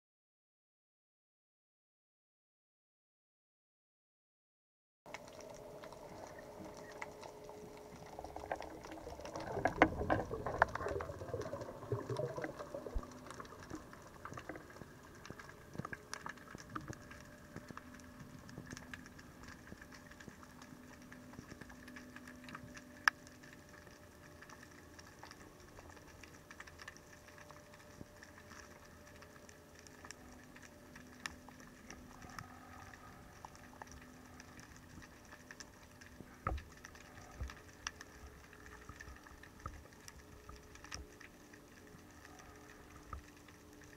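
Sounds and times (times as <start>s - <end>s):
faint steady hum: 5.1s - 43.9s
snapping shrimp clicks and crackle: 5.1s - 43.9s.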